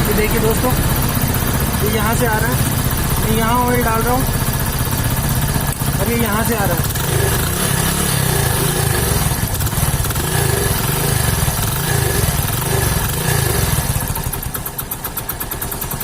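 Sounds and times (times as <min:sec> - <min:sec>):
motorcycle engine idling roughly: 0:00.0 - 0:16.0.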